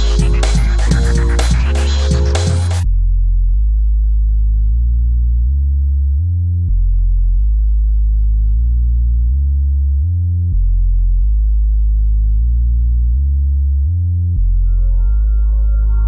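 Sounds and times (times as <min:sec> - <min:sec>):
deep bass line: 0:00.0 - 0:16.0.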